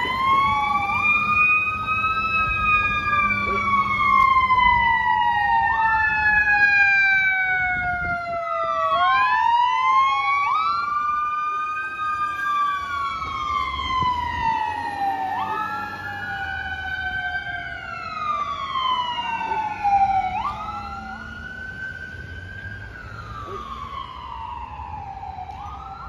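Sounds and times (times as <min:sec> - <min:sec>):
fire engine siren wailing: 0:00.0 - 0:26.0
truck engine and tyre rumble: 0:00.0 - 0:26.0.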